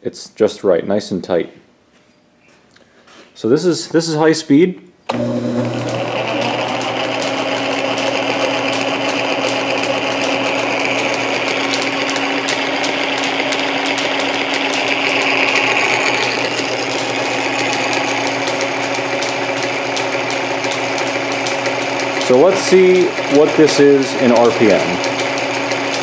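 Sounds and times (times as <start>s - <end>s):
drill press mechanical hum: 5.1s - 26.0s.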